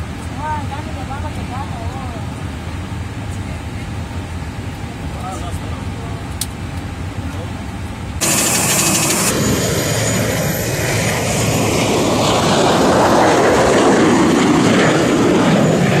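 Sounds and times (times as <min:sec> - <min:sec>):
jet engine roar taking off: 0:00.0 - 0:16.0.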